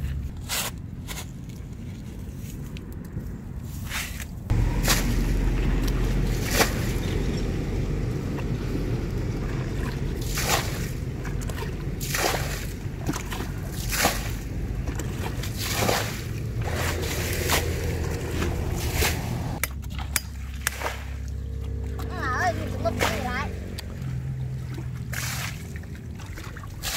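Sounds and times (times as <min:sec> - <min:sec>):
water sloshing and pouring: 0:04.1 - 0:26.9
bucket of water splashing: 0:04.5 - 0:26.9.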